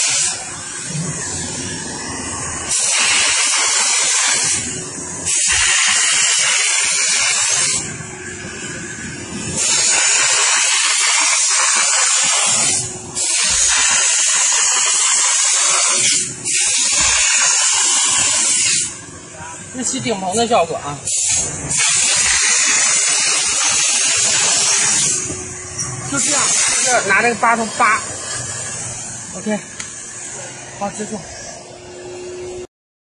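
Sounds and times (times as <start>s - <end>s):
steam nozzle hissing: 0.0s - 31.7s.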